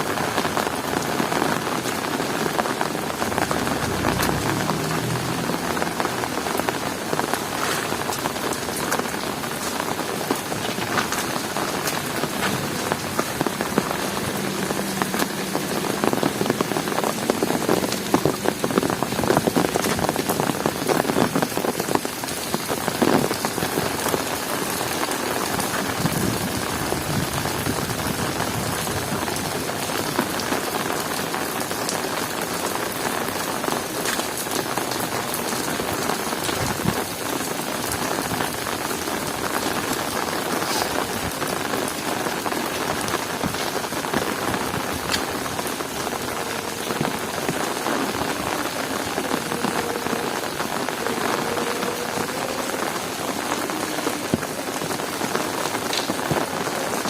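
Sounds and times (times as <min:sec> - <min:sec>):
heavy rain patter: 0:00.0 - 0:57.0.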